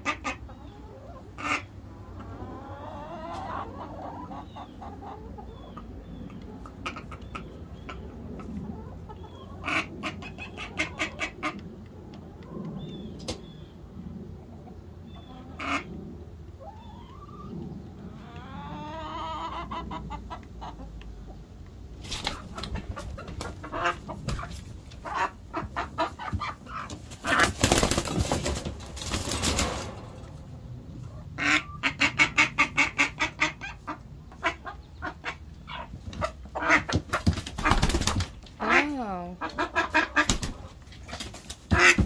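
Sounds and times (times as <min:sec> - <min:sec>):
hen clucking: 0:00.0 - 0:13.6, 0:14.4 - 0:42.0.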